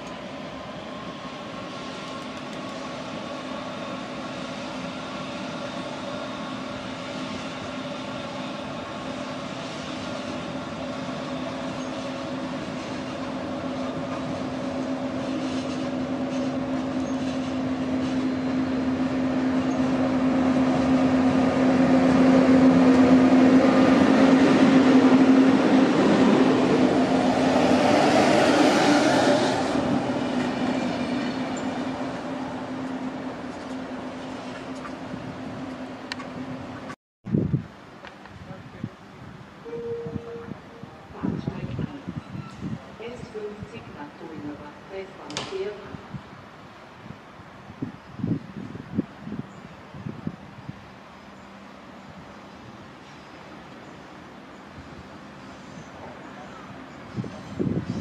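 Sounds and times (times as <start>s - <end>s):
train humming: 0.0s - 58.0s.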